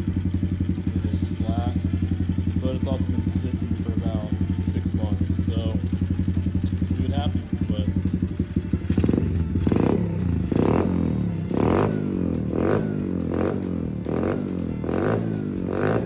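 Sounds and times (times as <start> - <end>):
small motorcycle engine revving: 0.0 - 16.0.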